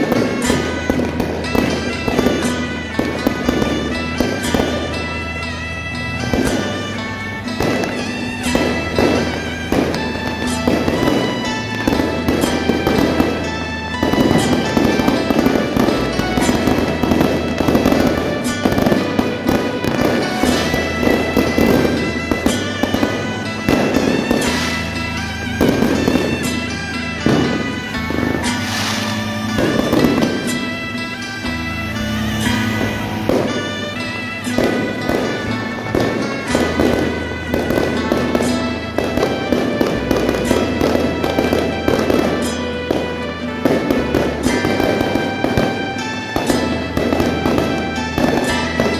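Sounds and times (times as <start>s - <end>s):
firecrackers crackling: 0.0s - 48.9s
music playing: 0.0s - 48.9s.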